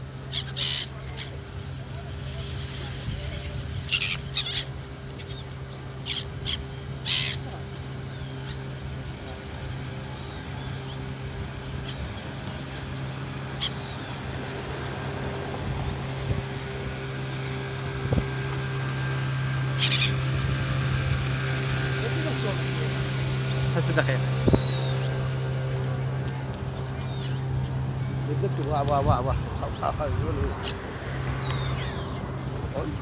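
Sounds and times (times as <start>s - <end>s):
steady low hum: 0.0s - 33.0s
gulls squawking: 0.1s - 15.6s, 19.3s - 33.0s.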